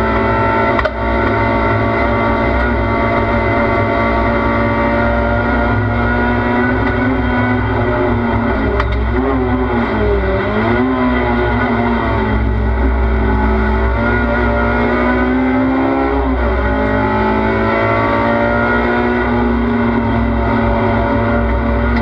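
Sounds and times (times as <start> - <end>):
constant low rumble: 0.0 - 22.0
race car engine accelerating: 0.0 - 22.0.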